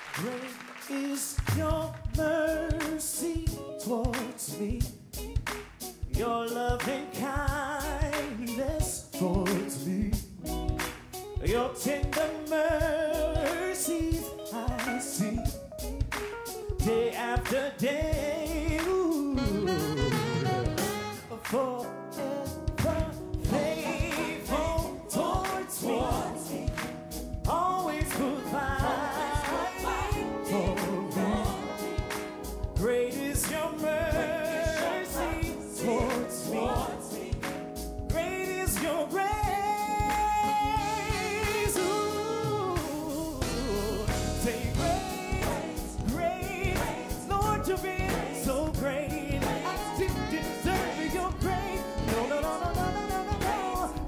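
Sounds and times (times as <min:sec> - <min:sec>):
man singing gospel: 0:00.0 - 0:05.3, 0:06.0 - 0:10.5, 0:11.4 - 0:15.8, 0:16.8 - 0:54.0
band accompaniment with beat: 0:00.0 - 0:54.0.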